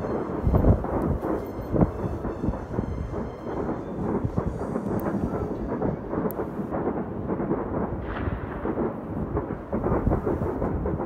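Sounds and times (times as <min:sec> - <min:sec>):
distant fireworks and firecrackers: 0:00.0 - 0:11.0.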